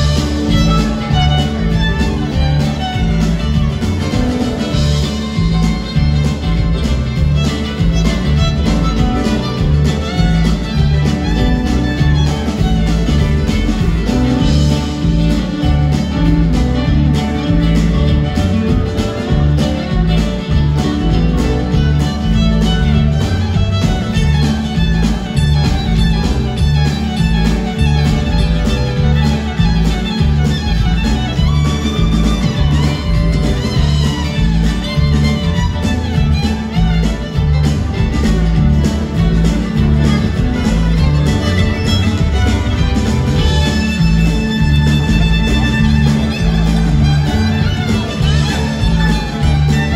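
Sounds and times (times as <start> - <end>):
fiddle playing lead line: 0.0 - 49.9
live band jamming: 0.0 - 49.9
steady drum beat: 0.0 - 49.9.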